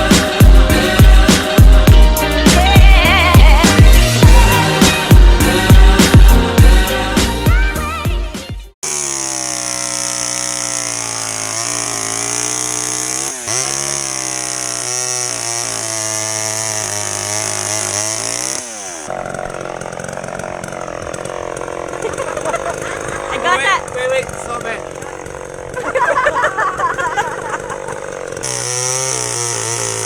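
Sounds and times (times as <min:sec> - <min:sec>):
small engine running: 0:00.0 - 0:07.5, 0:08.8 - 0:30.0.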